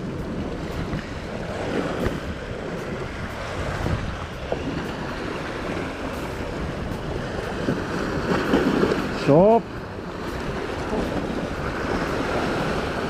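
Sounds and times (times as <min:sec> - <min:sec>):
sea waves and surf: 0:00.0 - 0:13.0
wind buffeting microphone: 0:00.0 - 0:13.0.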